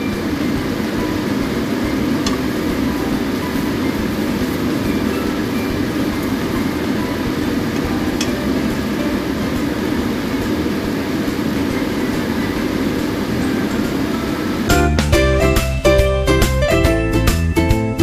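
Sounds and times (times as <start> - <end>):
vegetables sizzling in a pan: 0.0 - 14.8.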